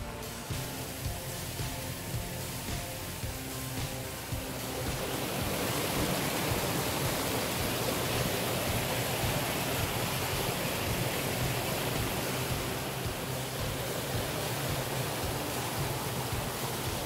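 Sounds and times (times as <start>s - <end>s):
stream rushing over rocks: 0.2s - 17.0s.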